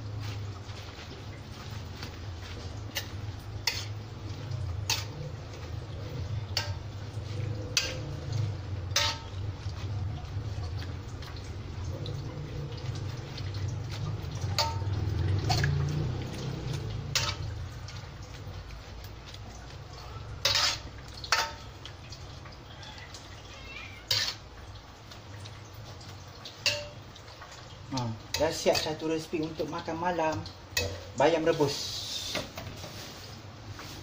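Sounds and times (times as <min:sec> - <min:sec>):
boiling water bubbling and sloshing: 0:00.0 - 0:34.0.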